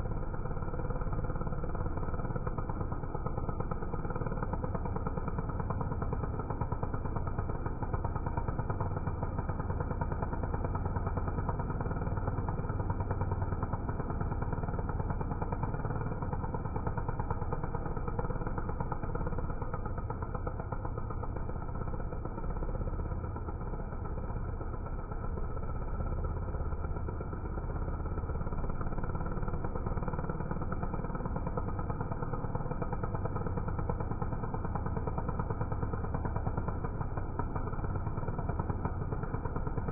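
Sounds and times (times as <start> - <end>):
chainsaw cutting wood: 0.1 - 39.9.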